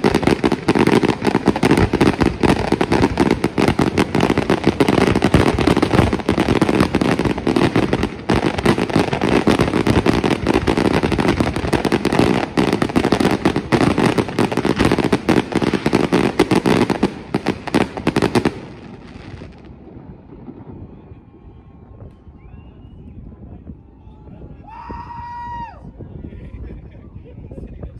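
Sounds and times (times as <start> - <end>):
fireworks bursting: 0.0 - 25.6.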